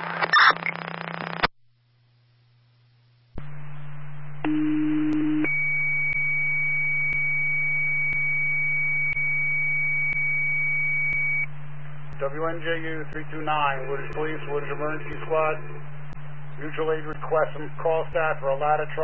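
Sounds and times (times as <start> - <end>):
radio hiss and low hum: 0.0 - 1.5, 2.2 - 19.0
low radio tone: 3.4 - 19.0.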